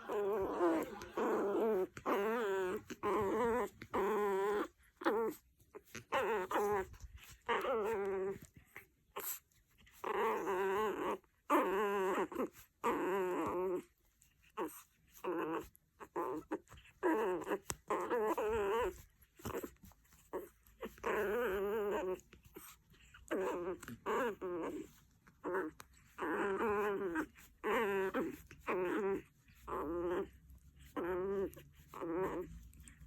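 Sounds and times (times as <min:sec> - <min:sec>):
small dog growling and whining: 0:00.0 - 0:33.0.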